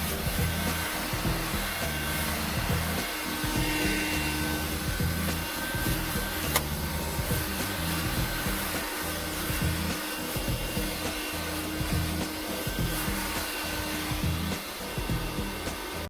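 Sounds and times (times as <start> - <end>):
handheld vacuum cleaner running: 0.0 - 16.0
music with bass beat: 0.0 - 16.0.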